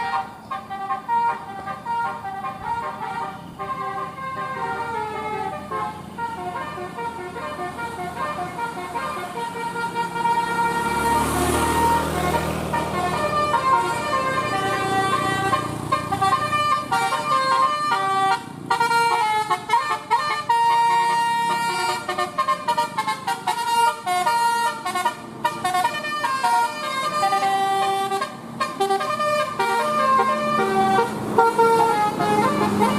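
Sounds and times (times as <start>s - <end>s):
musical air horn tune: 0.0s - 32.9s.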